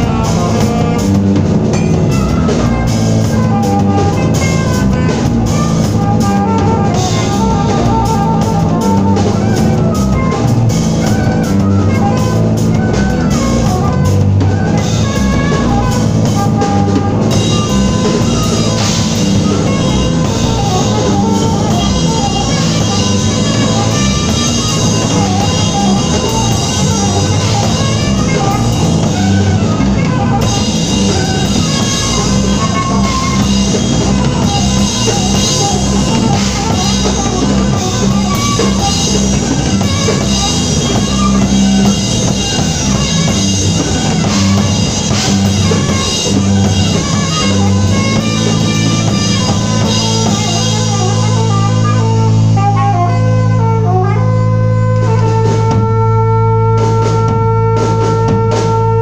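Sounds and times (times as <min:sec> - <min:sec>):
drum kit: 0:00.0 - 0:59.0
electric guitar: 0:00.0 - 0:59.0.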